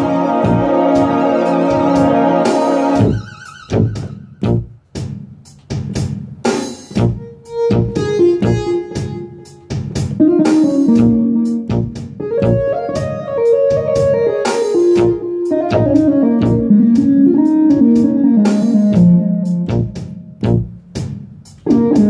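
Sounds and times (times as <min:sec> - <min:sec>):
irregular drum hits: 0:00.3 - 0:07.2, 0:07.8 - 0:22.0.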